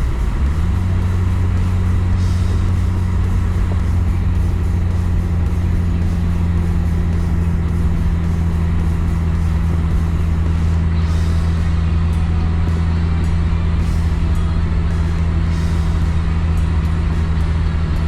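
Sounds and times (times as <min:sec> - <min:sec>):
car engine and road drone: 0:00.0 - 0:18.0
music playing: 0:00.0 - 0:18.0.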